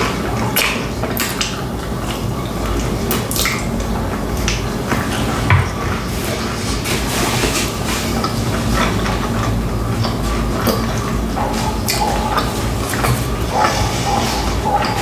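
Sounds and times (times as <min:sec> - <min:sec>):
wet chewing with smacks: 0:00.0 - 0:15.0.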